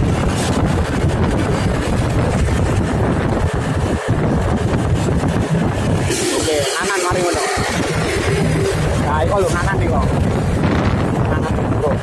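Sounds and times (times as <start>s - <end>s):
engine and road noise: 0.0s - 12.0s
wind buffeting microphone: 0.0s - 12.0s.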